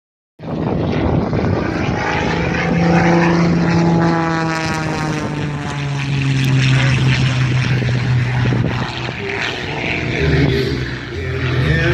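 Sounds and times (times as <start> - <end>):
biplane engine and propeller: 0.4 - 11.9.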